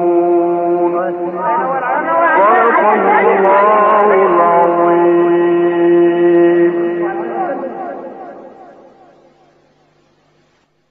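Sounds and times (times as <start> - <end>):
man reciting melodically: 0.0 - 9.6.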